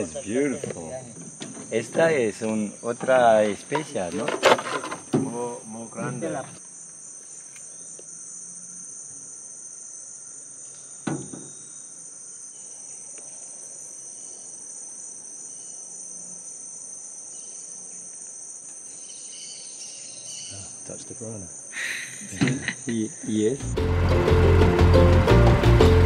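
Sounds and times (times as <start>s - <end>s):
high-pitched insect chorus: 0.0s - 23.8s.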